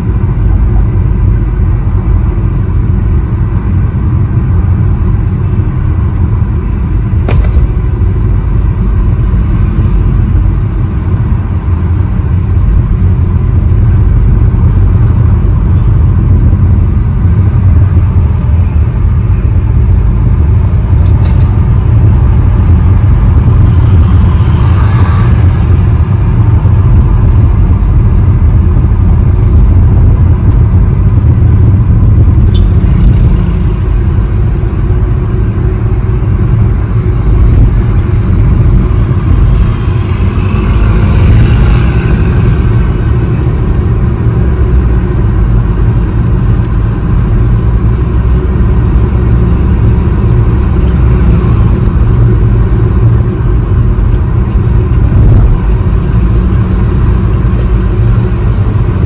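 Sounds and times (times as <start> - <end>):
car engine and tyres rumble: 0.0 - 59.0.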